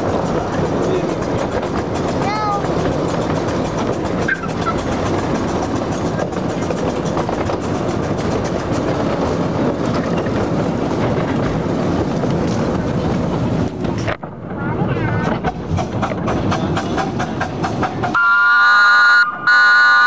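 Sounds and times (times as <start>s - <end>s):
wheels clicking on rails: 0.0s - 18.7s
miniature train rumbling: 0.0s - 20.0s.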